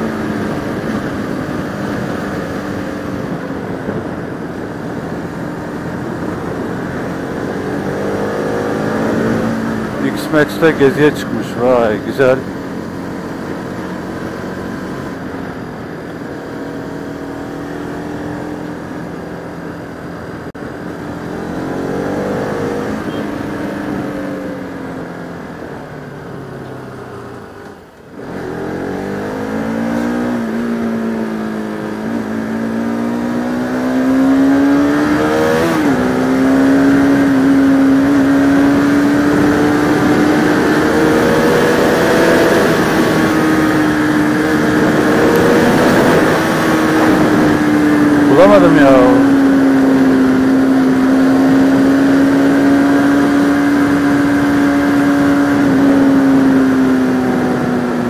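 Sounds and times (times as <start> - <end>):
motorcycle engine revving: 0.0 - 19.8, 20.8 - 58.0.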